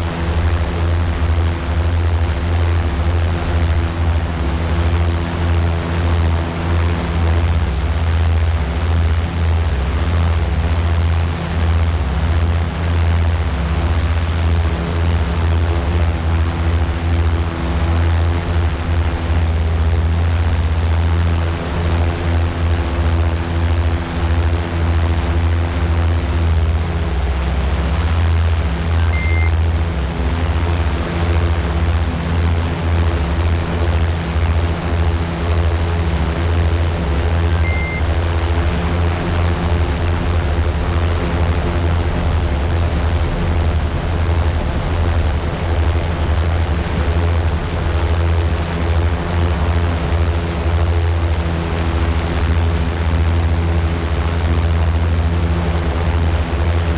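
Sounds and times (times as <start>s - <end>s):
drone motors humming: 0.0s - 56.9s.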